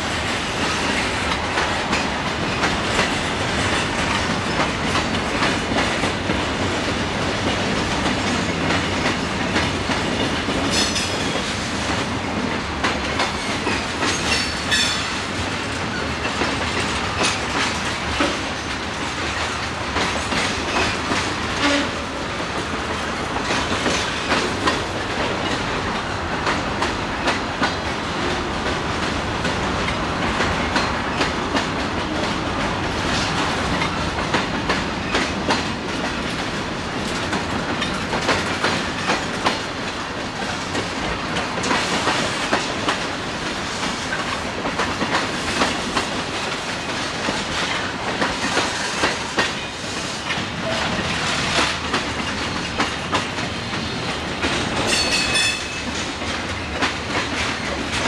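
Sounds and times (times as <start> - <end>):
freight train rumbling past: 0.0 - 58.0
wheels clicking over rail joints: 0.5 - 58.0.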